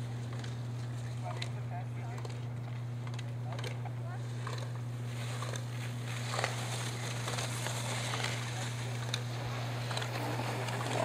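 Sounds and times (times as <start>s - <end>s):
faint outdoor background noise: 0.0s - 11.0s
low electrical hum: 0.0s - 11.0s.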